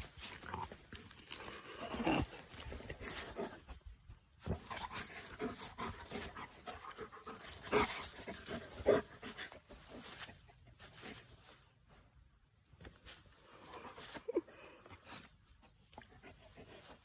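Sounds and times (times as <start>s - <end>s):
dog panting and snuffling: 0.0s - 11.5s, 13.6s - 17.0s.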